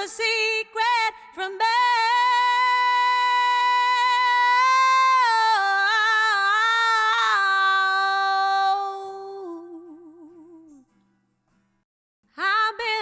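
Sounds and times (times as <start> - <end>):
woman singing unaccompanied: 0.0 - 10.8, 12.4 - 13.0.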